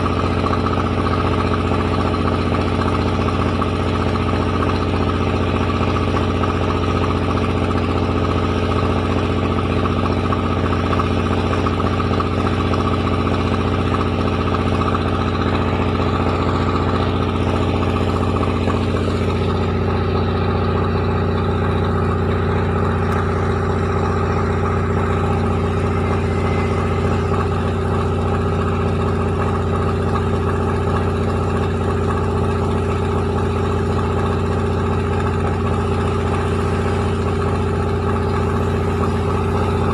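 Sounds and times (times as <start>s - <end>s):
rice milling machine drone: 0.0s - 39.9s.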